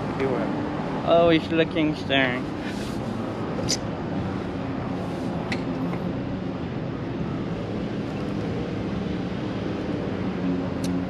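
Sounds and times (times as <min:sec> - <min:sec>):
street traffic hum: 0:00.0 - 0:11.0.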